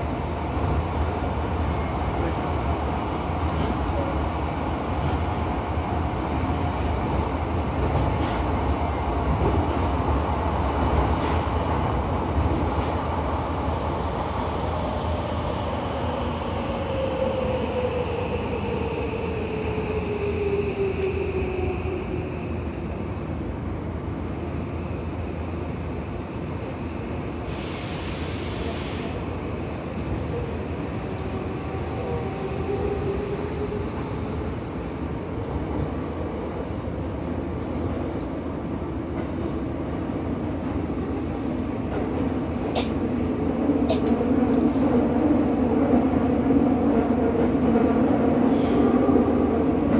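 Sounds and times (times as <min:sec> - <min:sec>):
subway wheels rumbling: 0:00.0 - 0:49.9.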